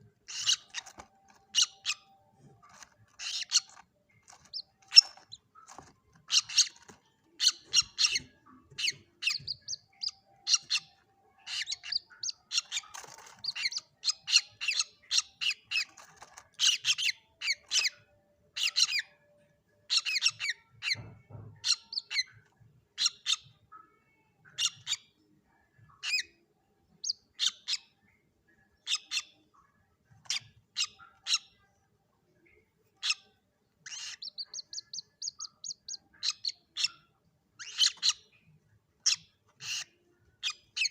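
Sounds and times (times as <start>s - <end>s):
moorhen chicks peeping: 0.0s - 31.7s, 32.4s - 40.9s.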